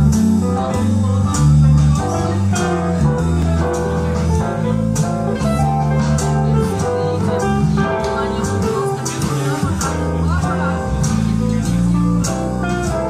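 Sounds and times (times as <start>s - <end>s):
jazz guitar: 0.0s - 13.0s
walking bass line: 0.0s - 13.0s.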